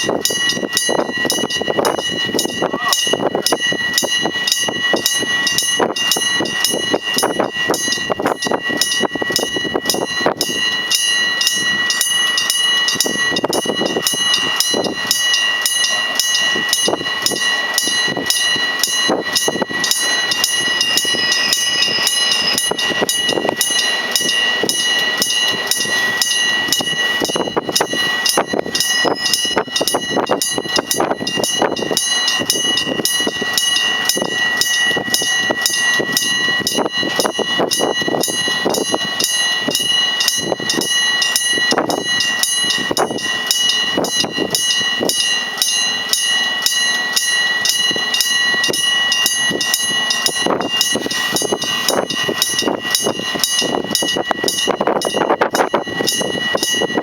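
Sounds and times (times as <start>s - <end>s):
level crossing bell ringing: 0.0s - 57.0s.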